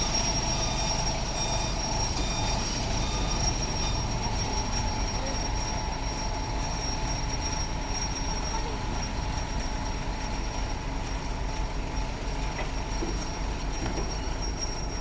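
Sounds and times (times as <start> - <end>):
high-pitched machine whine: 0.0 - 15.0
industrial machinery rumble: 0.0 - 15.0.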